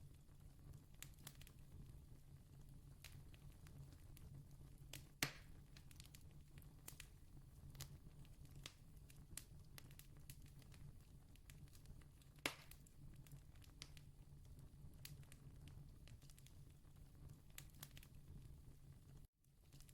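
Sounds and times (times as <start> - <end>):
fire popping: 0.0 - 19.9
campfire crackling: 0.2 - 2.0, 3.0 - 19.9.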